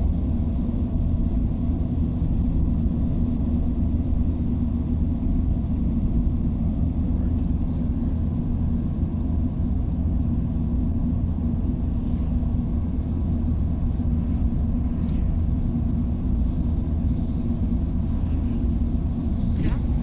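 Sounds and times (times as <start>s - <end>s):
vehicle road noise rumble: 0.0s - 20.0s.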